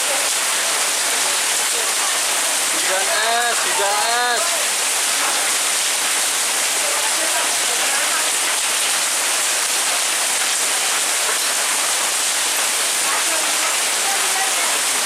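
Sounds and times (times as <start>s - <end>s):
heavy rain with hailstones: 0.0s - 15.0s.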